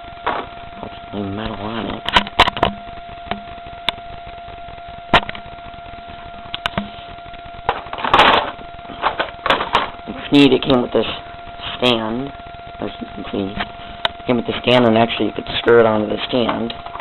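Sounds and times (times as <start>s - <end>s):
faint steady high tone: 0.0s - 17.0s.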